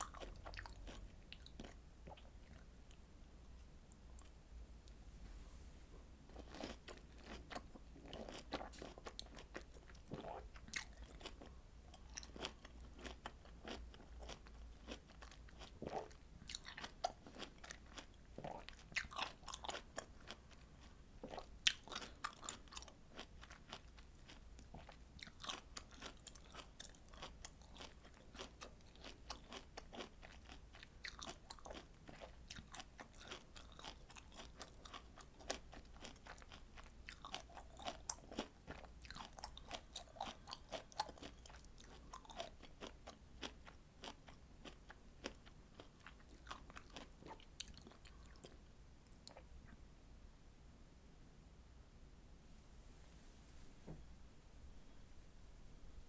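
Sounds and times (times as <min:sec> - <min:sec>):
person chewing juicy fruit: 0:00.0 - 0:03.0, 0:06.3 - 0:49.5.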